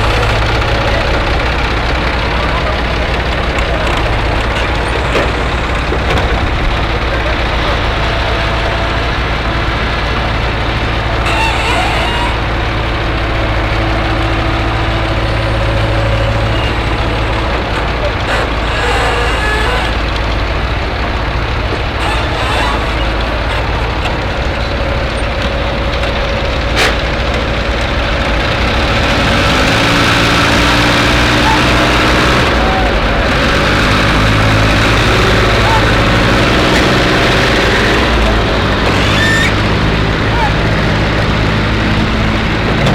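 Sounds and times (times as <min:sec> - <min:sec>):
heavy machine engine idling: 0:00.0 - 0:42.9.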